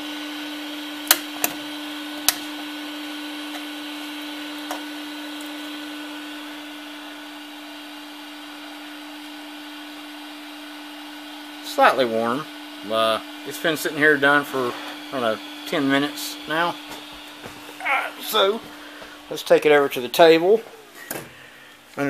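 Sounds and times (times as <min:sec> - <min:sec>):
printer fan hum: 0:00.6 - 0:22.0.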